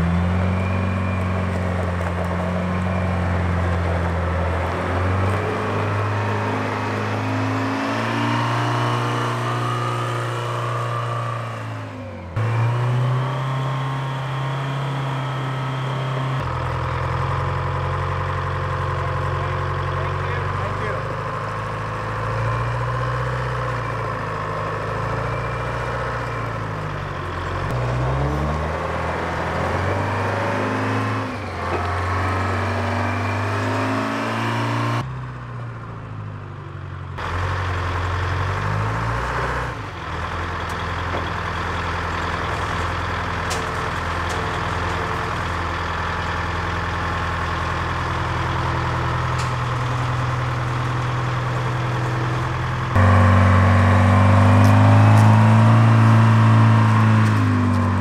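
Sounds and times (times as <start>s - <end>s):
forklift engine revving: 0.0s - 35.1s, 37.2s - 58.0s.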